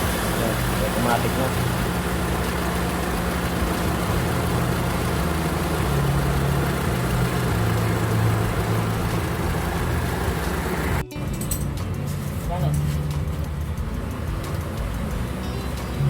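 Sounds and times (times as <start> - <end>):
condenser fan rushing air: 0.0 - 11.0, 12.5 - 16.0
car engine idling: 0.0 - 16.0.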